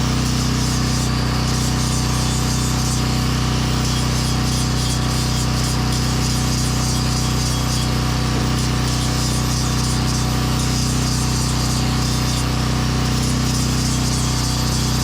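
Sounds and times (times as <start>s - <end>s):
portable generator running: 0.0s - 15.0s
power tool working wood: 0.0s - 15.0s.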